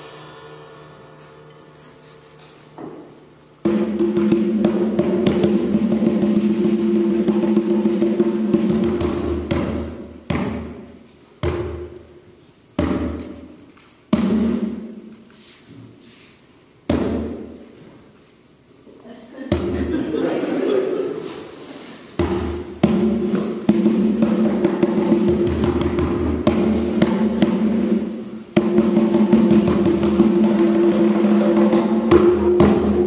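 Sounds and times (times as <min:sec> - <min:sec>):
conga drum strokes: 0:00.0 - 0:16.3, 0:19.5 - 0:33.0.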